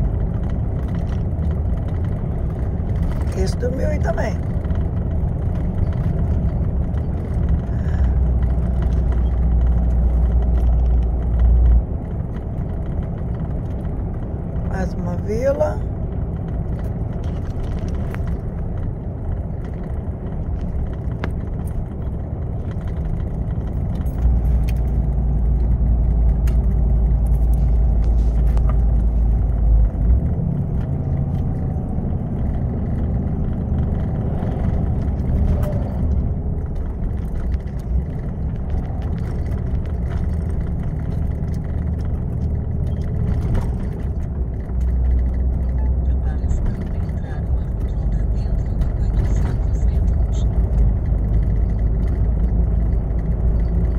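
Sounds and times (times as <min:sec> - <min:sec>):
small rattles: 0:00.0 - 0:48.0
road rumble: 0:00.0 - 0:53.9
truck engine drone: 0:00.0 - 0:53.9.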